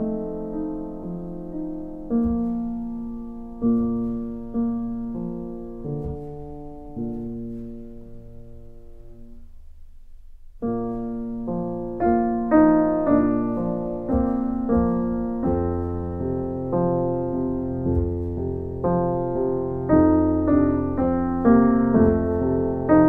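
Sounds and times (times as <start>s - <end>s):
piano music: 0.0s - 9.8s, 10.6s - 23.0s.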